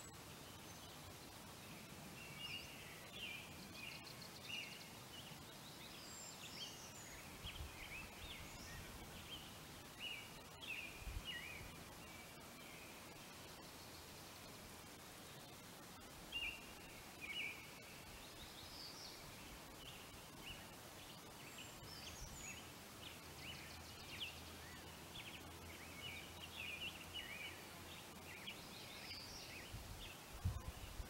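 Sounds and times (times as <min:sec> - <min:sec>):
faint outdoor hiss: 0:00.0 - 0:31.0
small birds chirping: 0:00.0 - 0:31.0.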